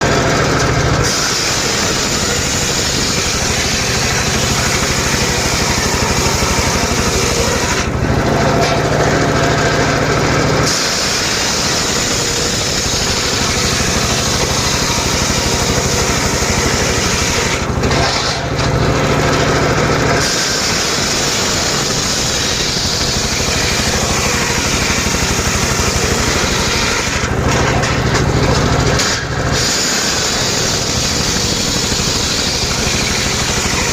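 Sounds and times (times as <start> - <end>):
circular sawmill sawing wood: 0.0 - 33.9.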